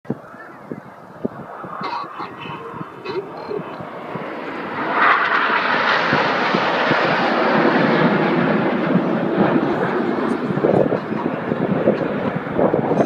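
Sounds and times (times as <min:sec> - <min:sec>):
jets flying past: 0:00.2 - 0:13.0.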